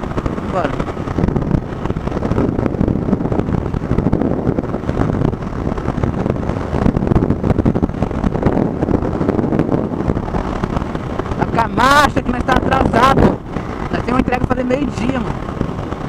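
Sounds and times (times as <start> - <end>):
moving vehicle noise: 0.0 - 16.0
wind buffeting microphone: 0.0 - 16.0.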